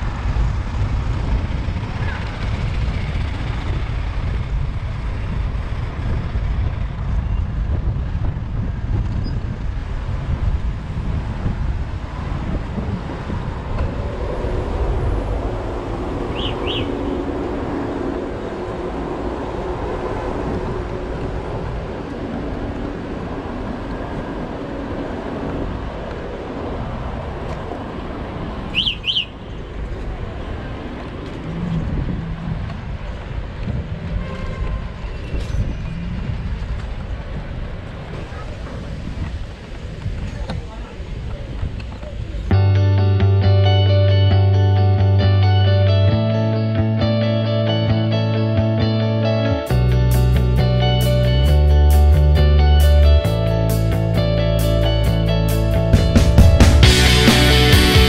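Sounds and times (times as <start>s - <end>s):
wind rumble on microphone: 0.0s - 47.1s
city traffic: 0.0s - 58.0s.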